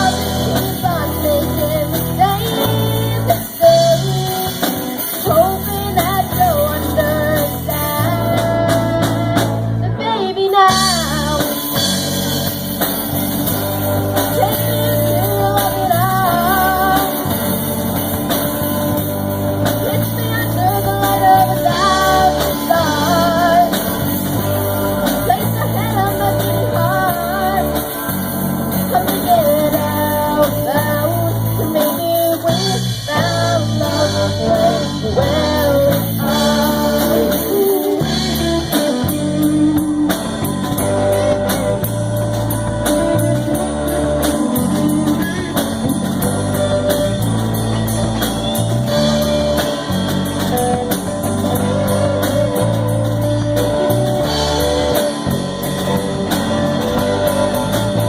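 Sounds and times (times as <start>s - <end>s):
live band playing pop ballad: 0.0s - 58.0s.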